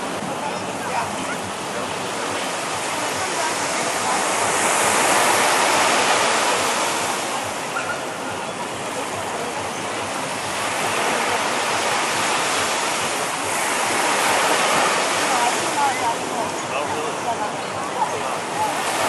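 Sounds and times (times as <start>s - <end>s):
waves washing up a beach: 0.0s - 19.0s.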